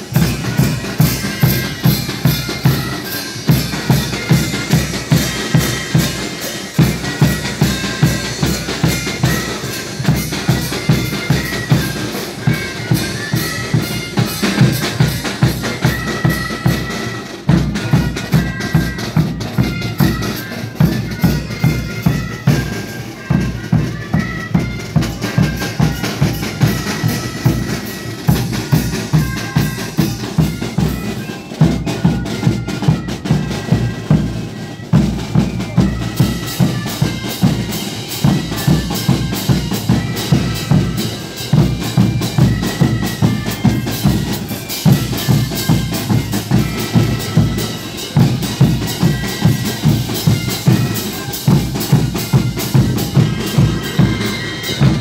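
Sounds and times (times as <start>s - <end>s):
hand cymbals: 0.0s - 55.0s
marching brass band: 0.0s - 55.0s
snare drum: 0.0s - 55.0s.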